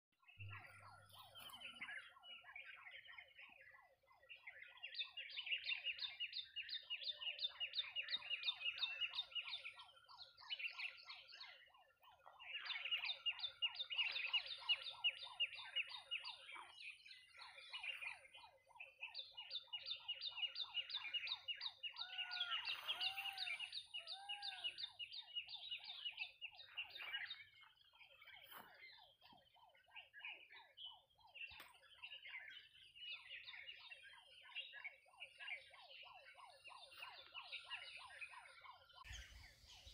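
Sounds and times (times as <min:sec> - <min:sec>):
lower curving bird calls: 0:04.2 - 0:39.9.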